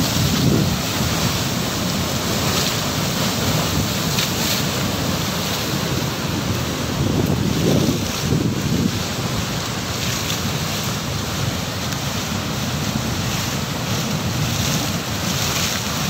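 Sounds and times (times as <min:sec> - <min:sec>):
water rushing through spillway: 0:00.0 - 0:16.0
wind buffeting microphone: 0:00.0 - 0:16.0.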